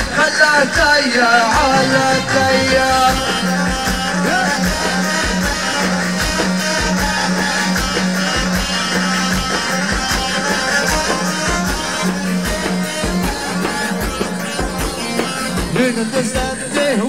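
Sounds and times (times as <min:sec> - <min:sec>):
steady drum beat: 0:00.0 - 0:17.0
instrumental melody: 0:01.4 - 0:17.0.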